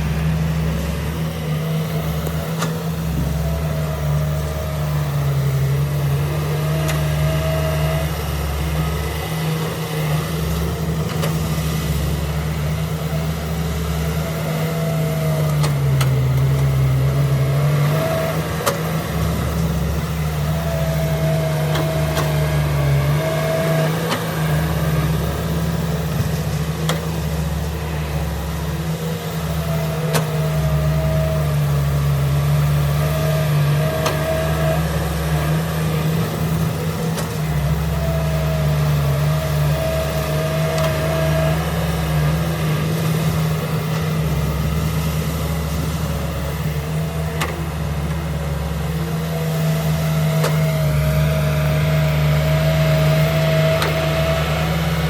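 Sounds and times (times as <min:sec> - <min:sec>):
heavy diesel engine running: 0:00.0 - 0:55.0
high whine: 0:00.0 - 0:55.0.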